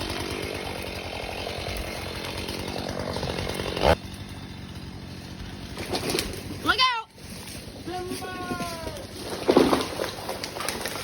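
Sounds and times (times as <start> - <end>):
tree trunk cracking: 0.0 - 4.0, 4.6 - 6.6, 7.3 - 11.0
chainsaw cutting tree trunk: 0.0 - 7.8, 8.6 - 11.0.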